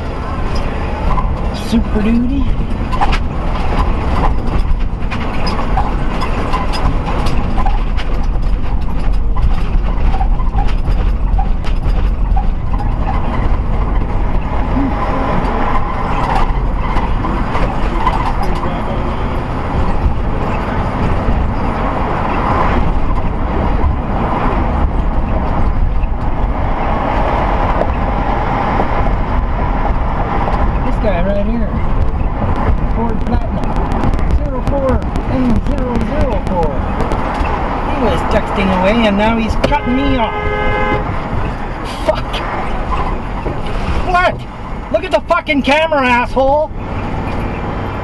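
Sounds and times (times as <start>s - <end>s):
car road and engine noise: 0.0s - 48.0s.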